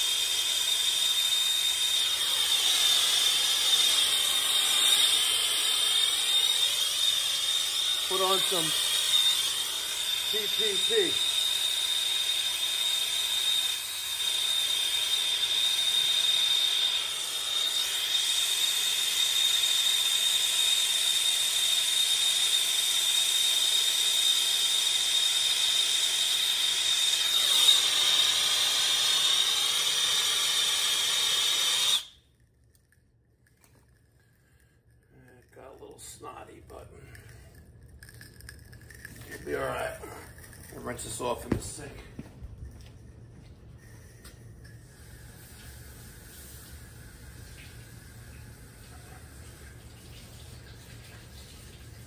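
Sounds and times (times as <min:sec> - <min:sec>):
torch hissing and whistling: 0:00.0 - 0:32.2, 0:38.9 - 0:43.2, 0:43.8 - 0:49.0.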